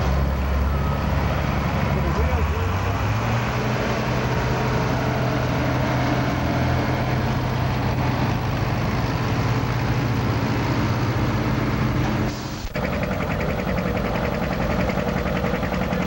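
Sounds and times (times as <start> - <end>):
tractor engines droning: 0.0 - 16.0.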